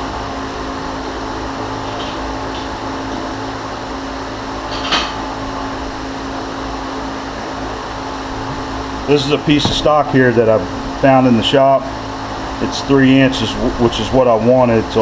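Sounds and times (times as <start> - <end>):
machine hum with steady tone: 0.0 - 15.0.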